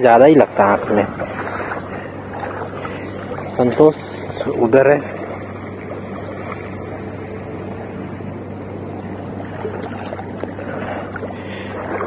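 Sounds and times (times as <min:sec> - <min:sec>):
constant low hum: 0:00.0 - 0:12.0
shallow seawater washing: 0:00.0 - 0:12.0.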